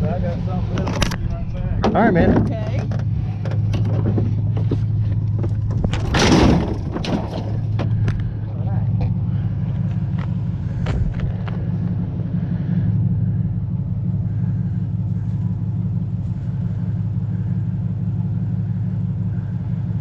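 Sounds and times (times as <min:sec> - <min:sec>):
truck engine and road noise: 0:00.0 - 0:20.0.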